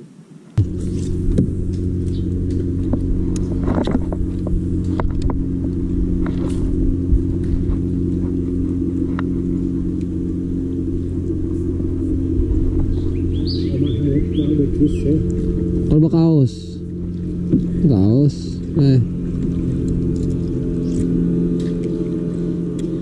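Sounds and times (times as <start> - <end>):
boat engine running: 0.6 - 23.0.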